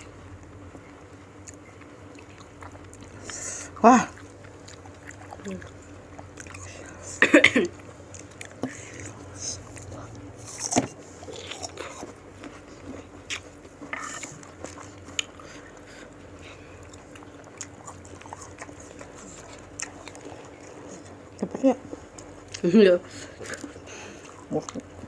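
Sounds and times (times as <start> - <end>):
close chewing: 0.0 - 7.1, 7.7 - 25.0.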